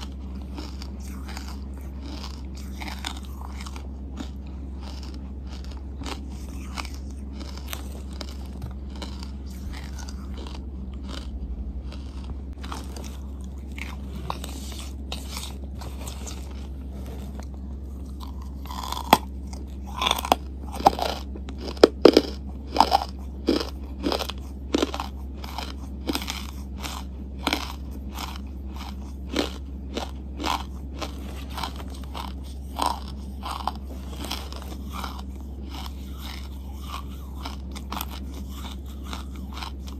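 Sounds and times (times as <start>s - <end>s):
charcoal being chewed and crunched: 0.0s - 39.9s.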